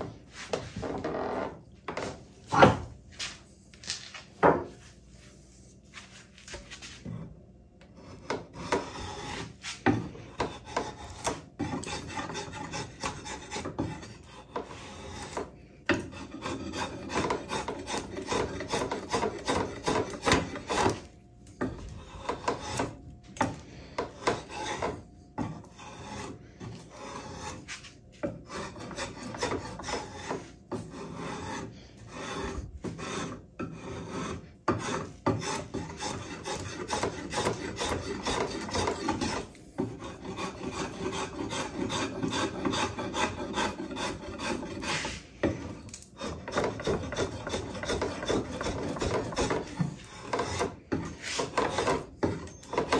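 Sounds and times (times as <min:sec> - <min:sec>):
drawknife scraping wood: 0:07.9 - 0:52.9.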